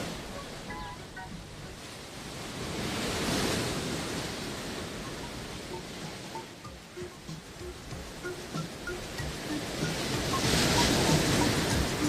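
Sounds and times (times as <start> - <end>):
sea wave washing in: 0.0 - 12.0.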